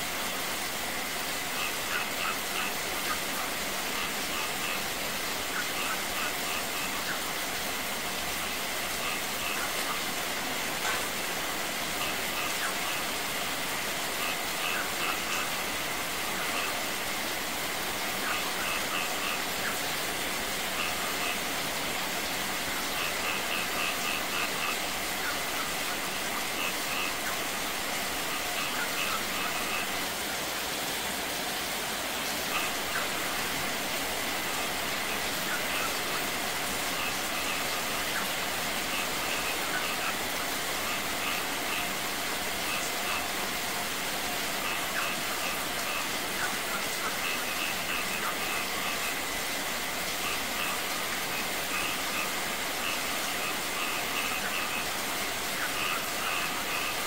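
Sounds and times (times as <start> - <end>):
rain pouring onto pond and stone: 0.0 - 57.0.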